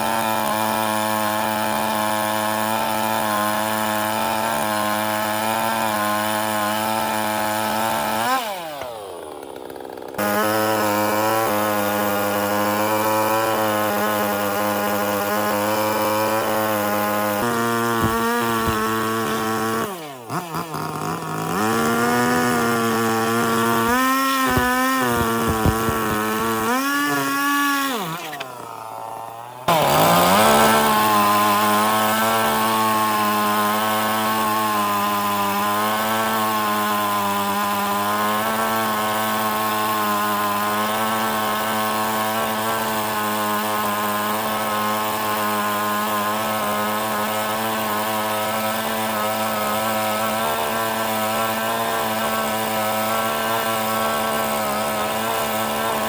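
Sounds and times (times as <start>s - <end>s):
power tool motor cutting wood: 0.0s - 56.0s.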